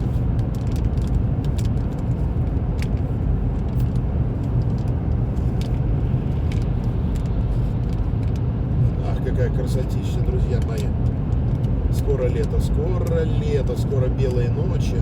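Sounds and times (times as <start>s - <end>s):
car tyres and engine rumble: 0.0s - 15.0s.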